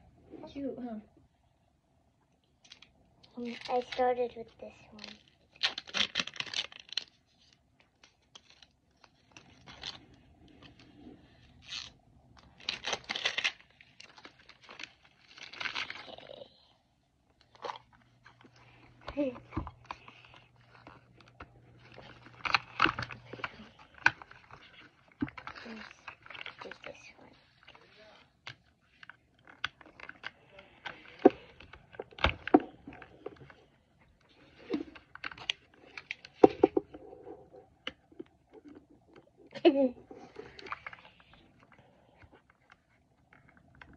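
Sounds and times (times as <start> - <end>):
plastic wrapping crinkling and tearing: 2.6 - 43.9.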